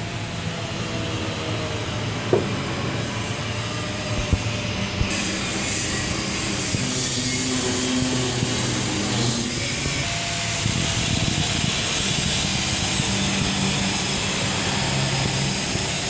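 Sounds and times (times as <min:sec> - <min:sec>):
engine-room machinery hiss and hum: 0:00.0 - 0:16.0.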